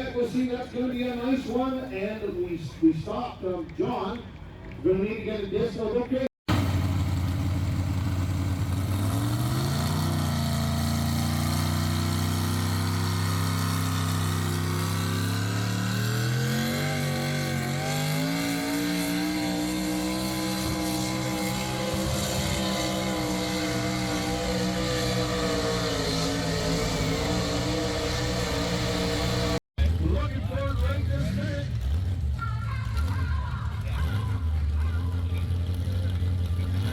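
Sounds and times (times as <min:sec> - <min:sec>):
vehicle engine revving: 0:06.5 - 0:36.9.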